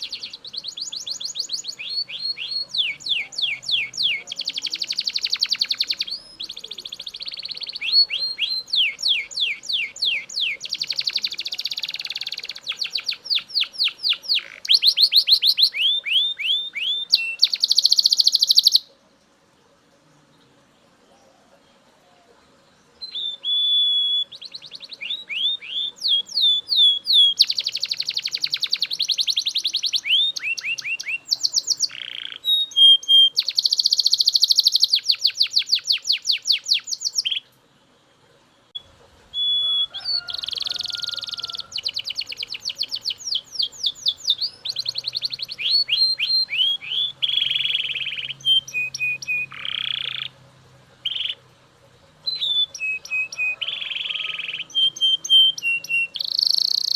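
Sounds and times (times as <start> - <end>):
canary singing trilled runs: 0.0 - 18.9, 23.0 - 37.5, 38.7 - 50.4, 52.2 - 56.9.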